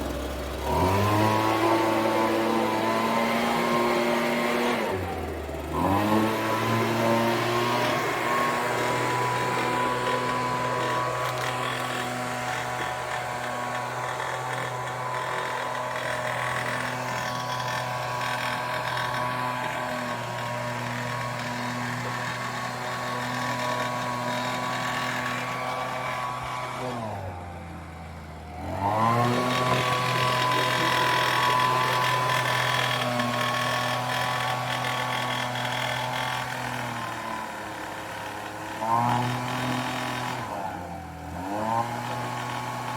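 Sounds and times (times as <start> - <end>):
leaf blower engine running: 0.0 - 42.9.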